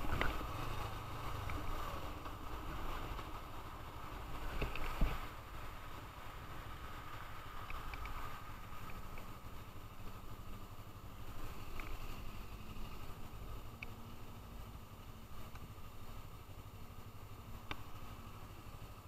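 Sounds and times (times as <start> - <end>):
motorcycle engine rumble: 0.0 - 19.0
wind rush and road noise: 0.0 - 19.0.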